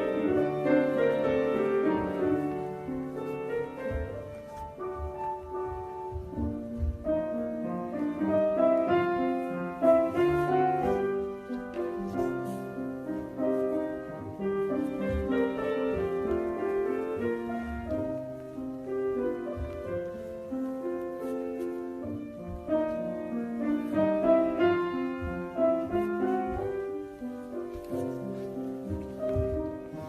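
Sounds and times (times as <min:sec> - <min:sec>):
classical piano music: 0:00.0 - 0:30.0.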